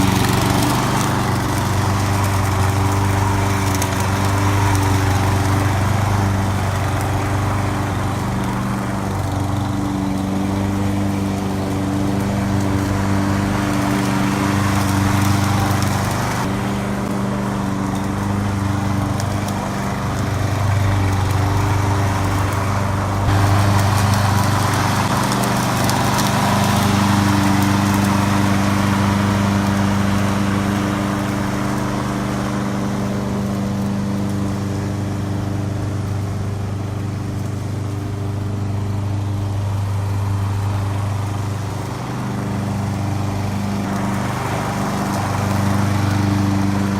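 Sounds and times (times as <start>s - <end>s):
mower engine running: 0.0s - 46.9s.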